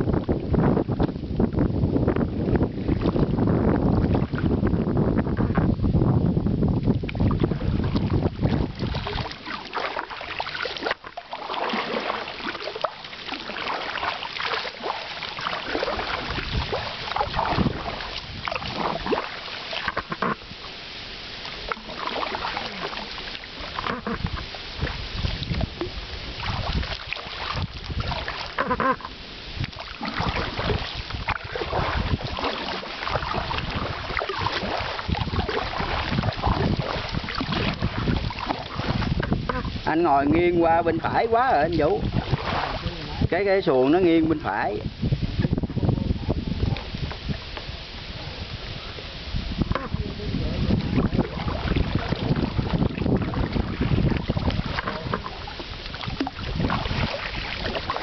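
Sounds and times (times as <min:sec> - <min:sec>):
paddles splashing in water: 0:00.0 - 0:05.6, 0:06.6 - 0:58.0.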